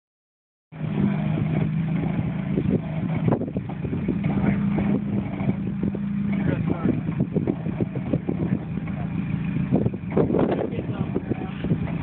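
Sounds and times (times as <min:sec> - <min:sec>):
engine running at low revs: 0:00.7 - 0:12.0.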